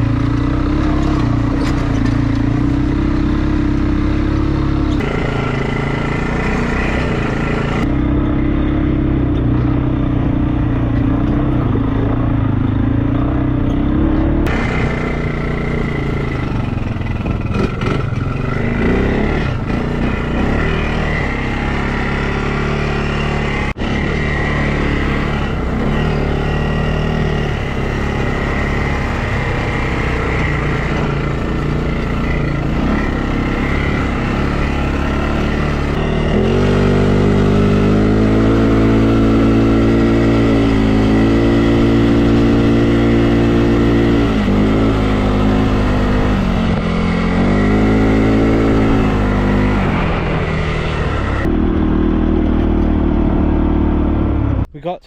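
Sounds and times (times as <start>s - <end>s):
quad bike engine: 0.0s - 54.7s.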